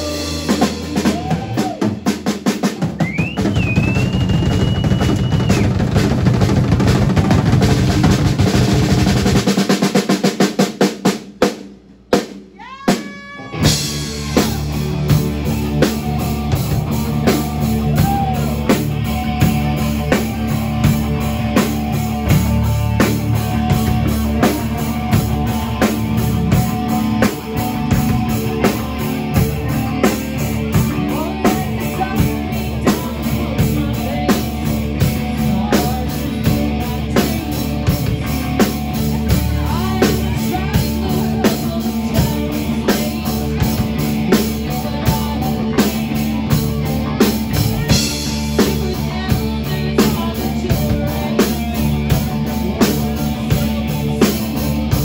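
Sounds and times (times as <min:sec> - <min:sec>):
electric guitar: 0:00.0 - 0:09.8, 0:12.6 - 0:55.0
bass guitar: 0:00.0 - 0:55.0
drum kit beat: 0:00.0 - 0:55.0.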